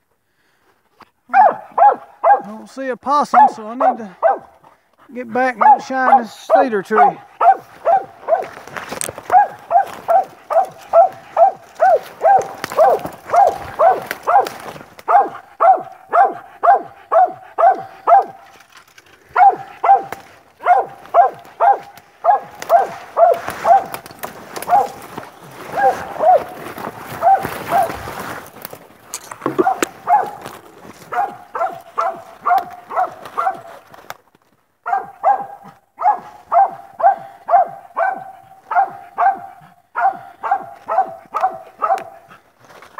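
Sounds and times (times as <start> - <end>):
dog barking: 1.3 - 4.7, 5.4 - 18.5, 19.3 - 28.3, 29.5 - 33.9, 34.8 - 42.4.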